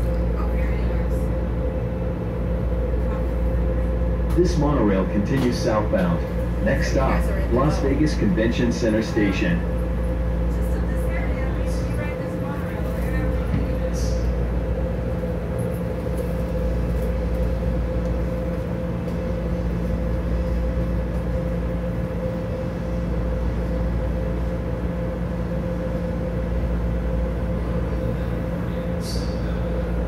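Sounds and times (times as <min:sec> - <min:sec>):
low train rumble: 0:00.0 - 0:30.0
mid-pitched whine: 0:00.0 - 0:30.0.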